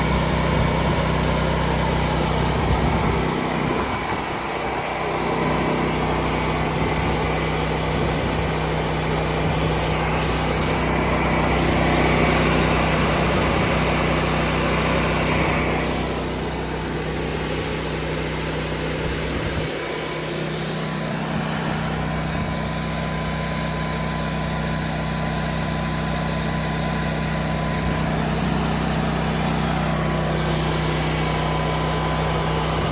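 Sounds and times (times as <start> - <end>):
generator engine hum: 0.0 - 32.9.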